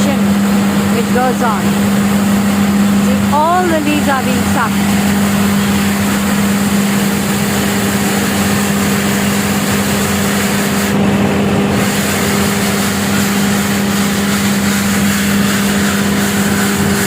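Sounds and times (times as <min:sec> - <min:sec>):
road sweeper truck drone: 0:00.0 - 0:17.0.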